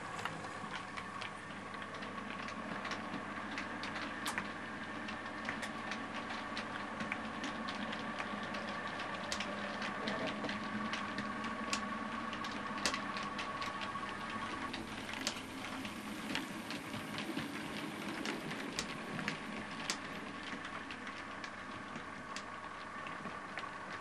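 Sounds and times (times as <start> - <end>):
faint motor whine: 0.0 - 24.0
model train motor hum: 0.0 - 24.0
wheels clicking on rails: 0.0 - 24.0.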